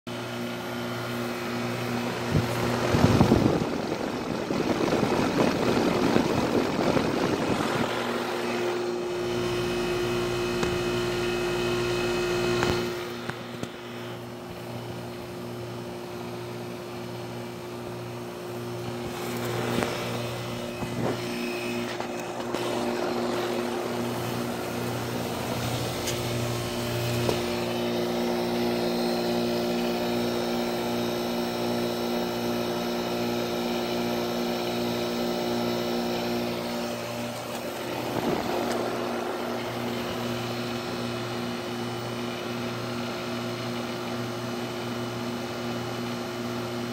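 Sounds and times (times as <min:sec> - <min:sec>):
compressor electrical hum: 0:00.1 - 0:46.9
outdoor fan rushing: 0:00.1 - 0:46.9.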